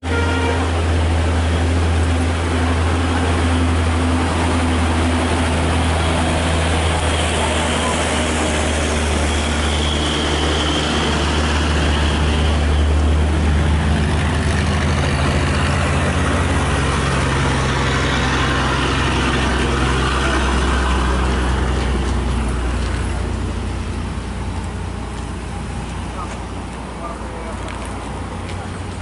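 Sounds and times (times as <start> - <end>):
road traffic noise: 0.0 - 29.0
truck diesel engine droning: 0.0 - 29.0.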